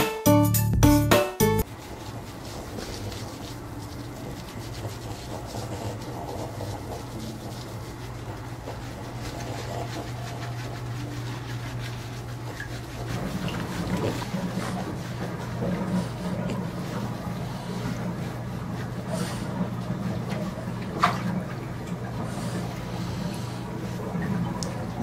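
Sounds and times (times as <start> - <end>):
hands rubbing wet fur: 1.6 - 25.0.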